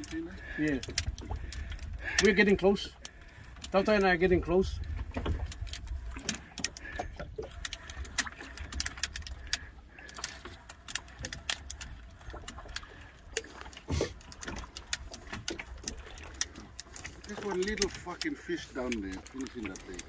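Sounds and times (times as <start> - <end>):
fishing reel clicking: 0.0 - 4.5, 7.5 - 13.5, 14.2 - 20.0.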